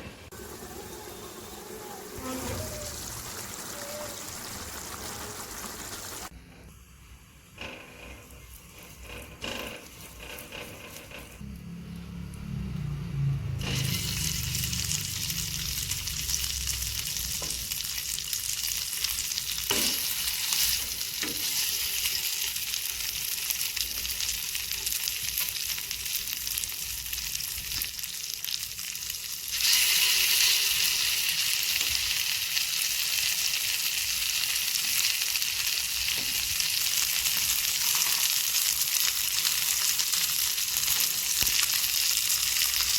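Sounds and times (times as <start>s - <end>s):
food sizzling in oil: 0.3s - 6.3s, 13.6s - 42.9s.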